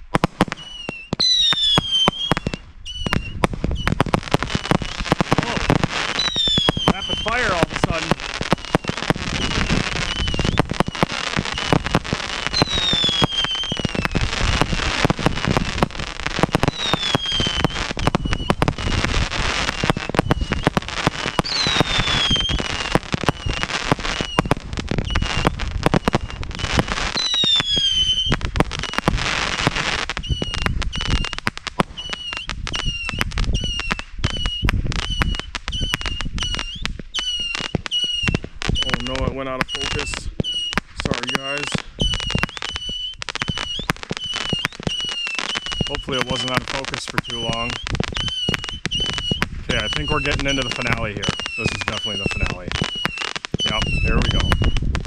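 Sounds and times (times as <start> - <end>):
fireworks popping and crackling: 0.0 - 55.0
firework whistles gliding down: 0.4 - 55.0
short chirping whistles: 0.6 - 4.9, 6.1 - 7.4, 8.6 - 11.8, 12.5 - 14.3, 16.6 - 19.0, 19.7 - 20.7, 21.3 - 29.1, 30.2 - 39.1, 39.7 - 40.8, 41.4 - 54.9.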